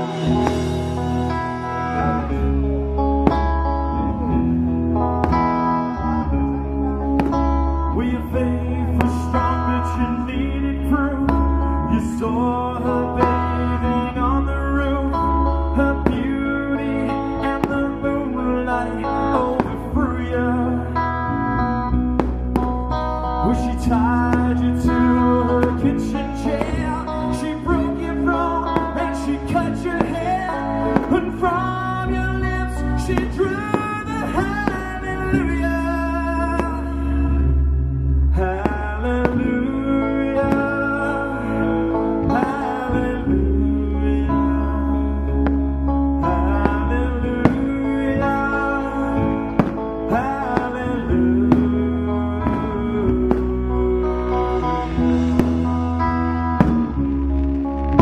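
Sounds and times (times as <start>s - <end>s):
low bass notes: 0.0s - 58.0s
person singing: 0.0s - 58.0s
sustained guitar chords: 0.0s - 58.0s.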